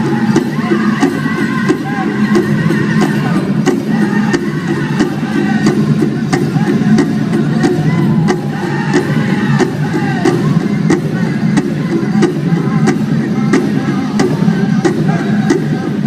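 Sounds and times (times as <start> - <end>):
big drum beat: 0.0 - 16.0
high wavering singing voices: 0.0 - 16.0.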